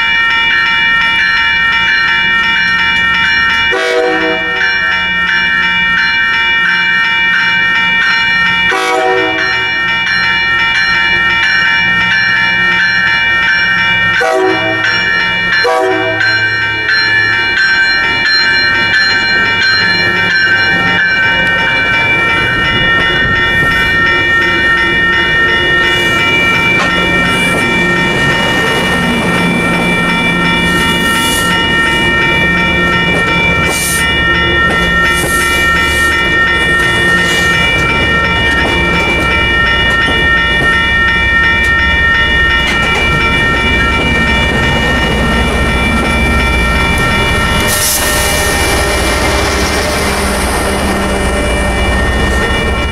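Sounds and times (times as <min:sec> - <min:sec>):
crossing warning bell ringing: 0:00.0 - 0:52.9
train coaches clacking over rails: 0:00.0 - 0:52.9.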